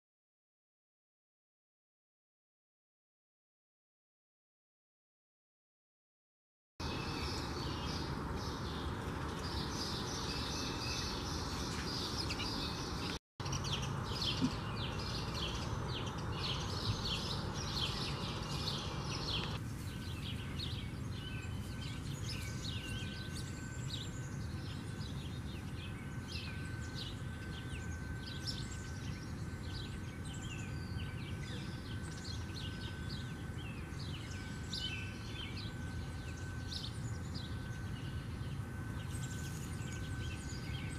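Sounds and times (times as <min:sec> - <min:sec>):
sparrows chirping: 0:06.8 - 0:40.9.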